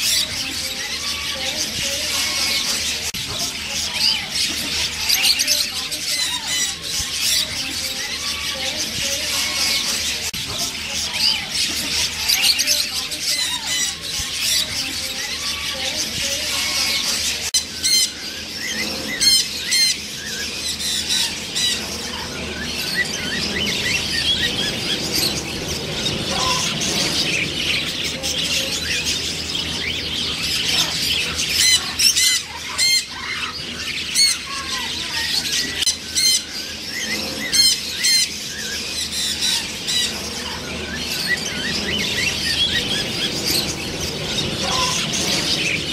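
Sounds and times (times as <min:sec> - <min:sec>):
macaws squawking and chattering: 0:00.0 - 0:45.9.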